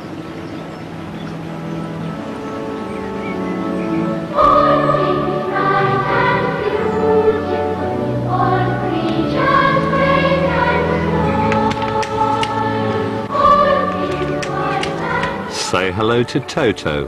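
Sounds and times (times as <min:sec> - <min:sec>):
choir singing held chords: 0:01.2 - 0:17.0.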